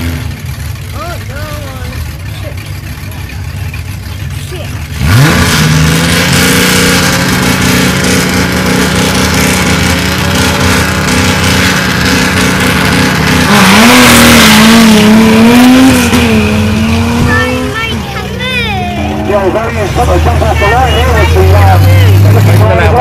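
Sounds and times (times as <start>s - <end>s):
drag racing engines revving: 0.0s - 23.0s.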